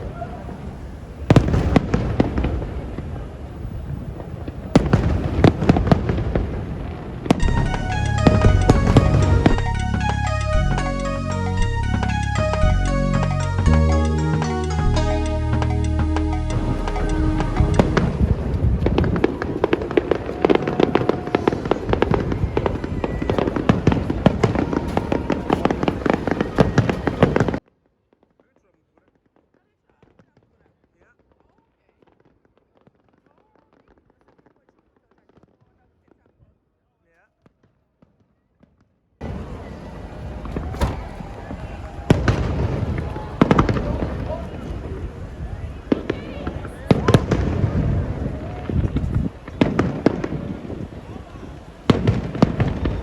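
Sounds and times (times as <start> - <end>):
fireworks bursting with sharp bangs: 0.0 - 36.6, 37.3 - 53.0.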